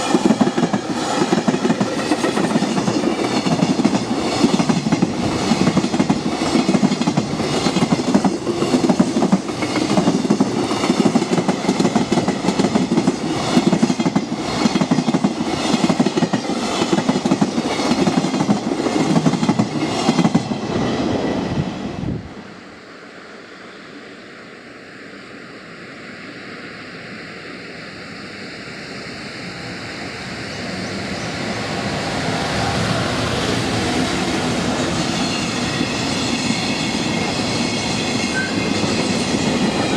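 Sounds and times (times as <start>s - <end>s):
freight train approaching: 0.0s - 39.9s.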